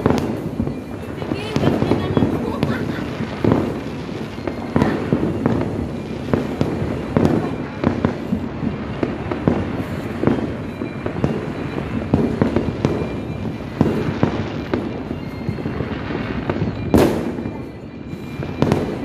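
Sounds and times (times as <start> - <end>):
fireworks bangs and pops: 0.0 - 19.0
loud firework blast: 0.0 - 19.0.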